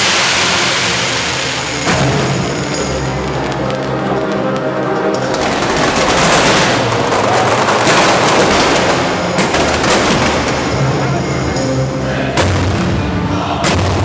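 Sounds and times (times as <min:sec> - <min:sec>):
fireworks crackling and popping: 0:00.0 - 0:11.7
show music: 0:00.0 - 0:14.0.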